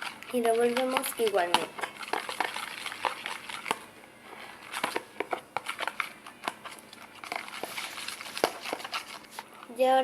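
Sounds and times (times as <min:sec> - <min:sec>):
spoon stirring sticky paste: 0:00.0 - 0:09.8.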